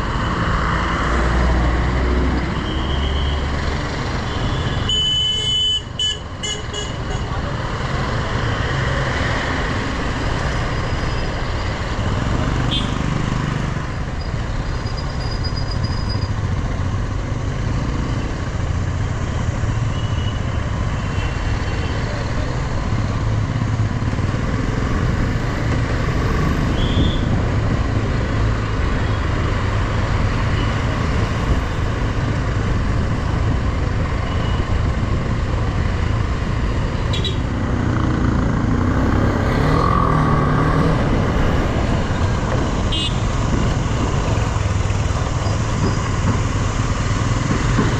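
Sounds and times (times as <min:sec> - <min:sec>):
road and rushing noise: 0:00.0 - 0:47.9.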